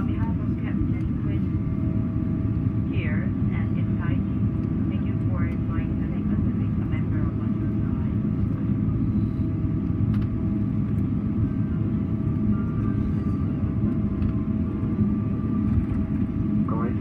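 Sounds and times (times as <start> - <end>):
airplane cabin rumble and hum: 0.0 - 17.0.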